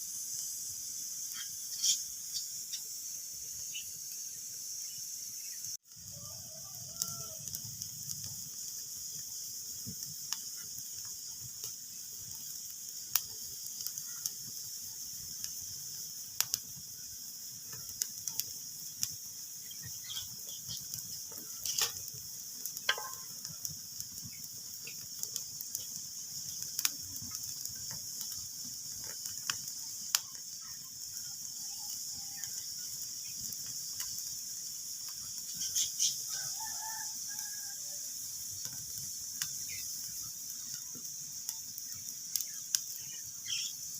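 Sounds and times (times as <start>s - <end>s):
wood fire crackling and hissing: 0.0s - 43.9s
fire pops and snaps: 6.8s - 31.7s, 32.4s - 37.6s, 38.5s - 43.8s.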